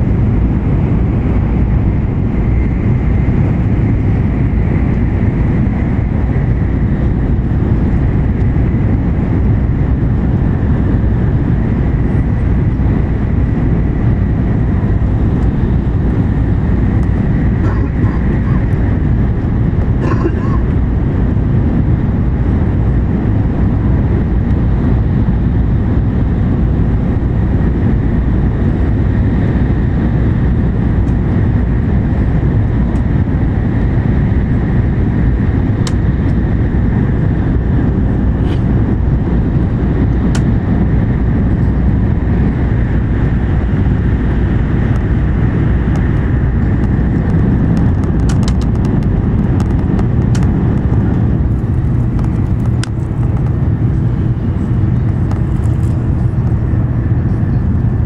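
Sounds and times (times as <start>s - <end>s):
train deep rumble: 0.0s - 58.0s.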